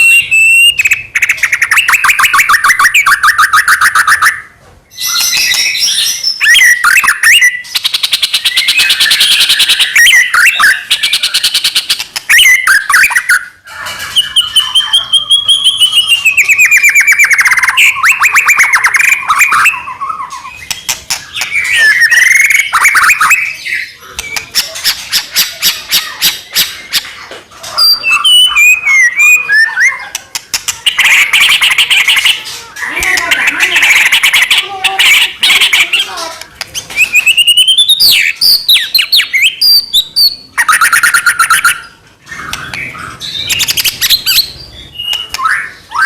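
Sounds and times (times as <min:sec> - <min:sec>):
songbird trilling and whistling: 0:00.0 - 0:46.0.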